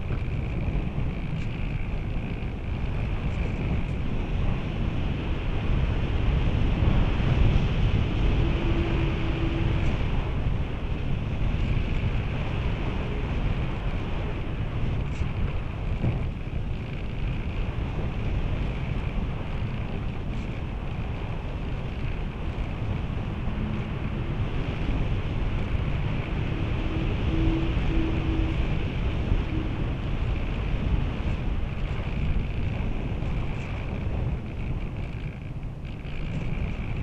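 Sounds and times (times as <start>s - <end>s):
wind noise over camera: 0.0s - 37.0s.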